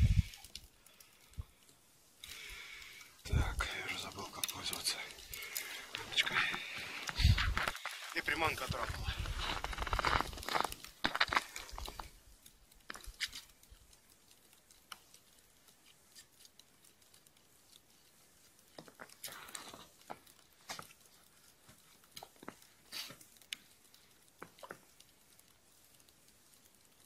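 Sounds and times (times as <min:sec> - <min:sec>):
ice crackling in skimmer: 0:00.0 - 0:27.0.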